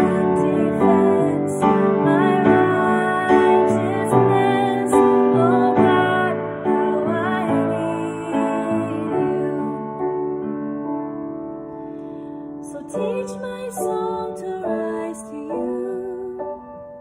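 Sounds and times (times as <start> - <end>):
woman singing: 0.0 - 10.1, 12.6 - 17.0
piano chords: 0.0 - 17.0.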